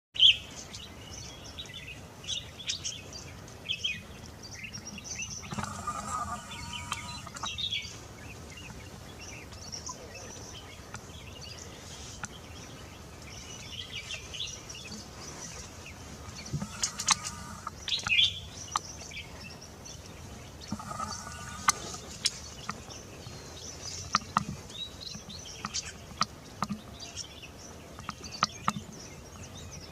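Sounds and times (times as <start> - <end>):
outdoor background hiss: 0.2 - 29.9
wild birds chirping: 0.2 - 29.9.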